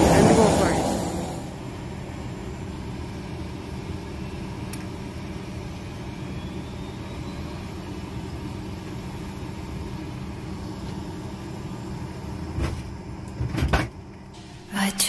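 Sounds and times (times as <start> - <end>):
airliner low rumble and hum: 0.0 - 15.0.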